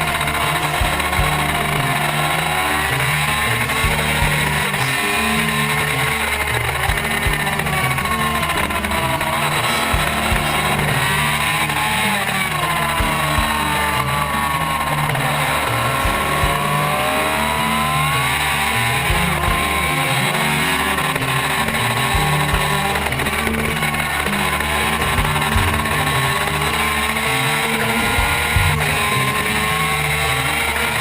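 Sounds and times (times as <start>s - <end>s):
background music with bass: 0.0s - 31.0s
motorbike engine revving: 0.0s - 31.0s.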